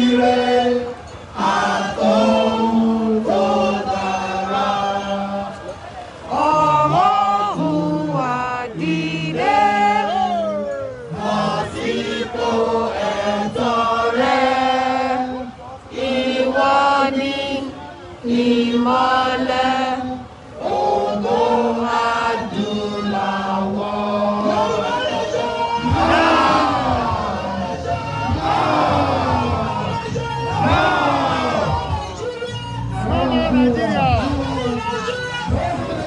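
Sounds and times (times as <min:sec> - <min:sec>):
crowd singing a chant: 0:00.0 - 0:36.0.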